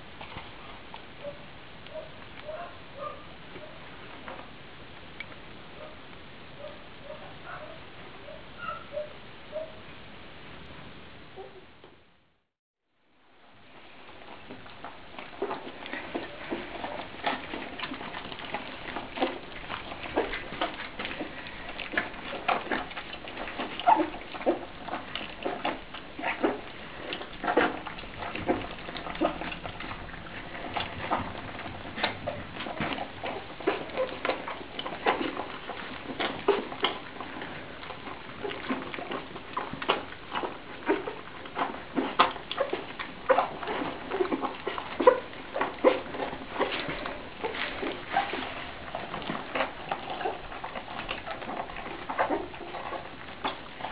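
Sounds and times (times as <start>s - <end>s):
puppies lapping food: 0.0s - 9.8s, 13.5s - 53.9s.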